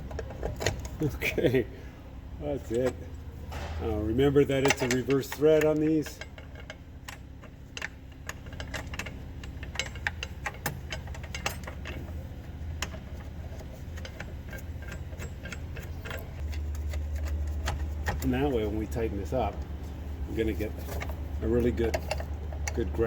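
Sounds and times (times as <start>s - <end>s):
low steady hum: 0.0s - 23.0s
light metallic clicks and clinks: 2.6s - 23.0s.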